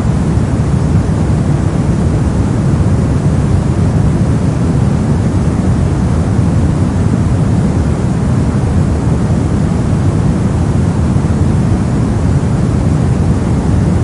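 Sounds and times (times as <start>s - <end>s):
brown noise: 0.0s - 14.0s.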